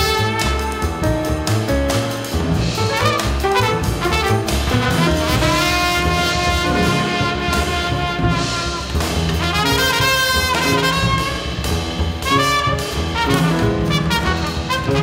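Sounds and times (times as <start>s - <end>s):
trumpet melody: 0.0s - 2.0s, 2.8s - 15.0s
drums with cymbal strokes: 0.0s - 14.9s
bass: 0.0s - 15.0s
piano: 0.0s - 15.0s.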